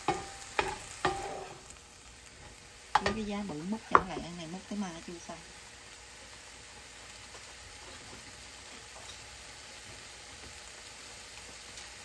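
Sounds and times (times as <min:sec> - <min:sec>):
mushrooms sizzling in oil: 0:00.0 - 0:12.0.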